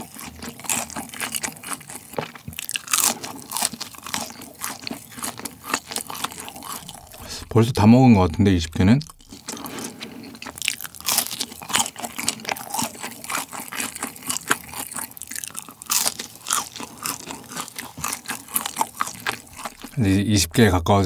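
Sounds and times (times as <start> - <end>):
crunching and chewing fried food: 0.0 - 7.6, 8.8 - 20.2.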